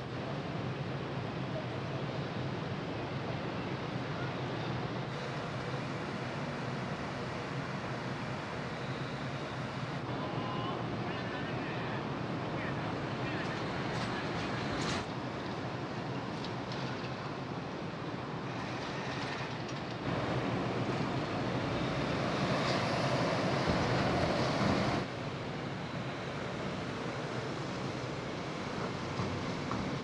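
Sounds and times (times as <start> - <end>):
wind: 0.0 - 30.0
ship machinery noise: 0.1 - 30.0.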